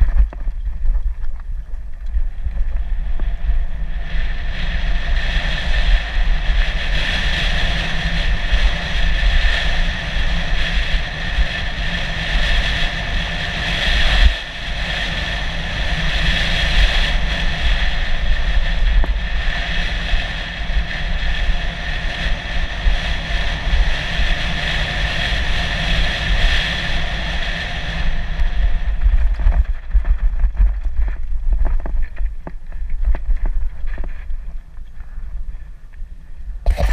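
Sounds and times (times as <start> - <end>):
bike whirring: 0.0 - 36.9
wind rushing over microphone: 0.0 - 36.9.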